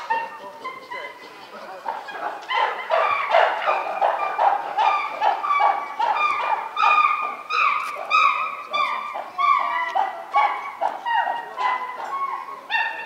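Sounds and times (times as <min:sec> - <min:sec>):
chimpanzees hooting: 0:00.0 - 0:13.0.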